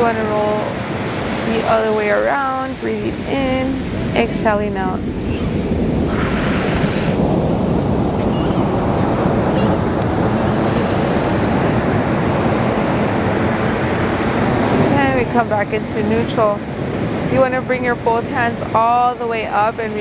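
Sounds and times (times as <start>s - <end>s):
ocean waves breaking: 0.0s - 20.0s.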